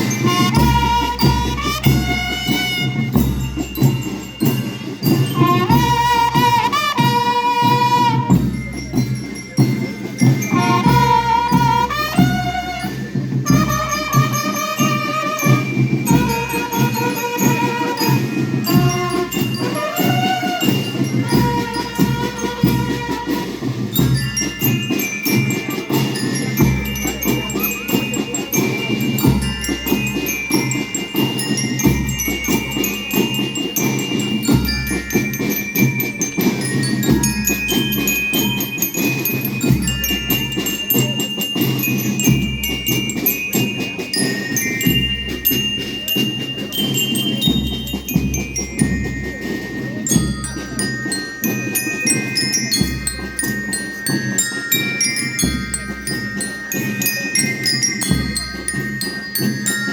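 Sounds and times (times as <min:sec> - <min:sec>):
bell lyres melody: 0:00.0 - 0:59.9
drums beating: 0:00.0 - 0:59.9.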